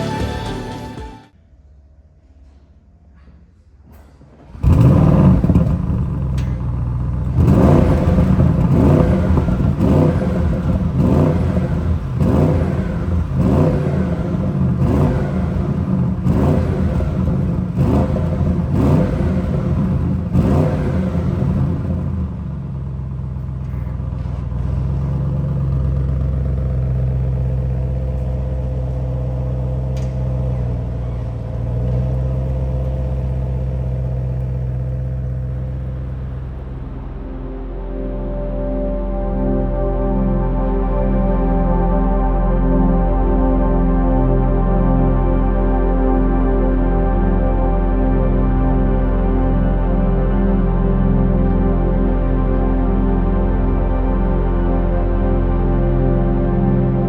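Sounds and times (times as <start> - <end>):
car engine starting and running: 0.0 - 1.3, 4.0 - 54.3.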